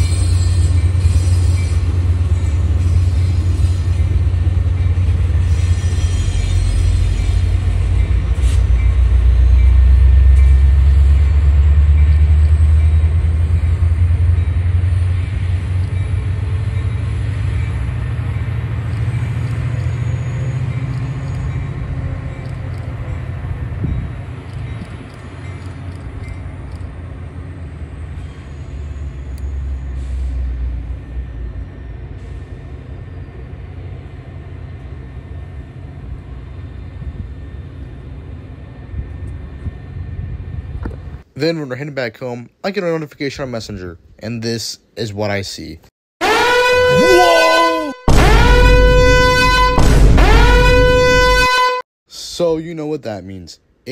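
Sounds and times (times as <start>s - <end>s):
diesel locomotive rumbling: 0.0s - 42.3s, 45.6s - 52.7s.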